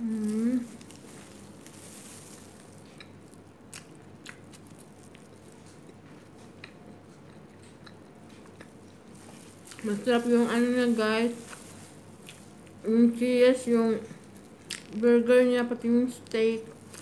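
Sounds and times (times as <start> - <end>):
faint chewing: 0.0 - 12.9, 13.6 - 15.1, 15.8 - 17.0
low steady hiss: 0.0 - 17.0.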